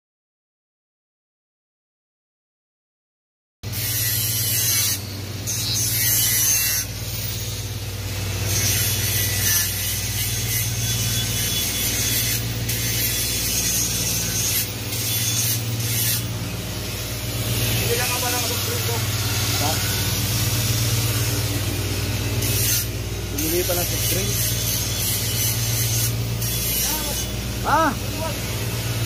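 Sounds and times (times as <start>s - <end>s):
low machinery hum: 5.0s - 29.0s.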